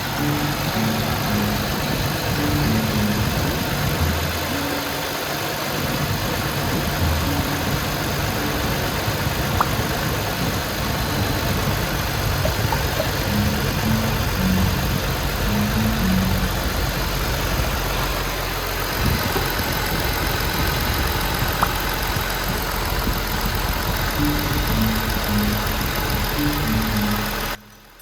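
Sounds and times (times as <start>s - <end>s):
car engine running: 0.0s - 28.0s
constant whooshing noise: 0.0s - 28.0s.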